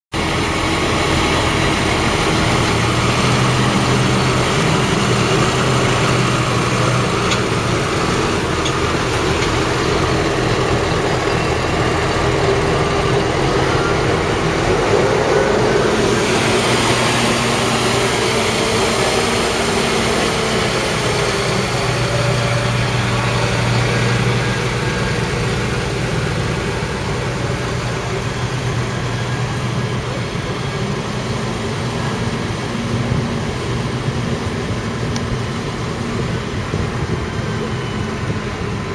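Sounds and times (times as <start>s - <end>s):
diesel tractor engines running: 0.1s - 38.9s.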